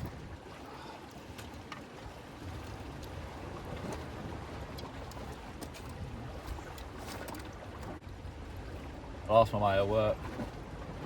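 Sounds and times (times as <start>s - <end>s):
wind rumbling on microphone: 0.0s - 9.3s
sea water washing: 0.0s - 11.0s.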